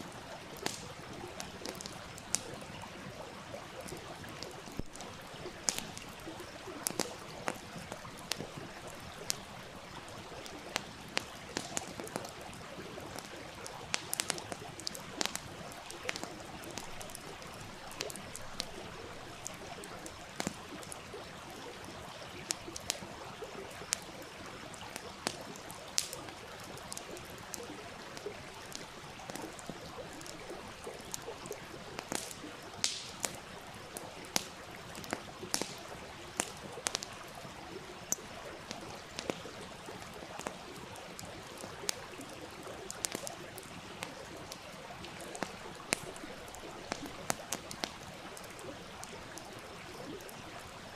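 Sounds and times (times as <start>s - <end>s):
stream rushing and trickling: 0.0s - 50.9s
wood fire crackling and popping: 0.0s - 50.9s.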